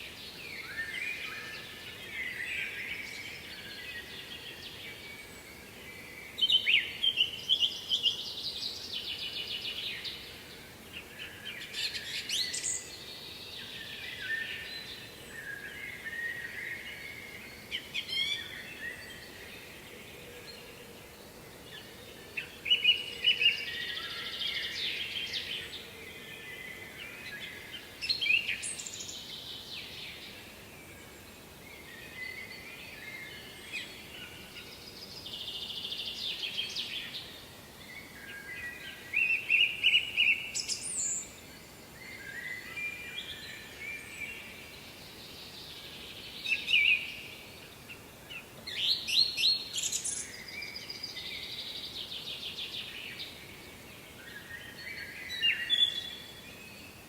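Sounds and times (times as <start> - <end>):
faint background hiss: 0.0 - 57.0
songbirds chirping and trilling: 0.0 - 57.0.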